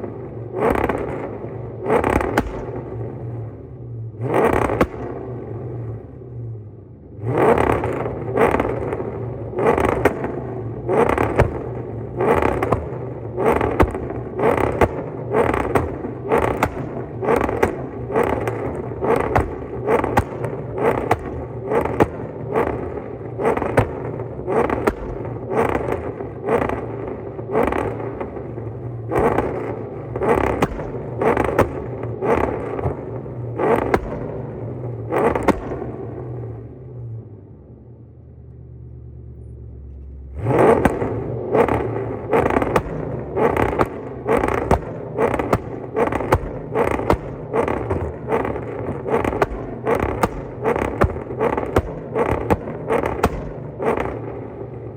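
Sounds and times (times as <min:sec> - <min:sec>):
exhaust pops: 0:00.0 - 0:06.4, 0:07.2 - 0:37.3, 0:38.4 - 0:54.9
car engine rumbling: 0:00.0 - 0:54.9.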